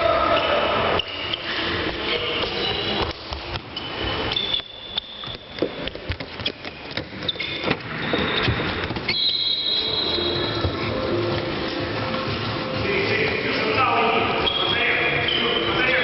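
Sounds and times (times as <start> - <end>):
shoe squeaks: 0.3 - 11.8, 14.2 - 16.0.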